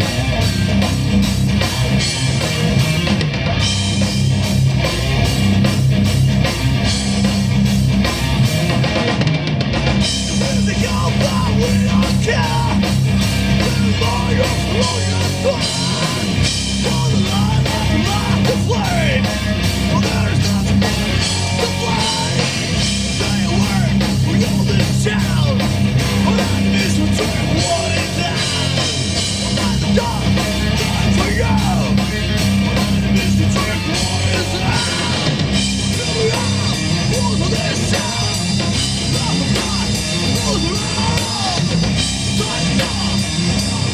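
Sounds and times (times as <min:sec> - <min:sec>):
heavy rock band playing: 0:00.0 - 0:43.9.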